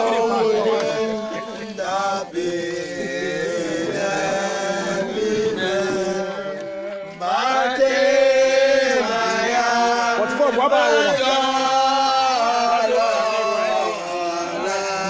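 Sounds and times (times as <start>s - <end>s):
group singing a chant: 0.0s - 15.0s.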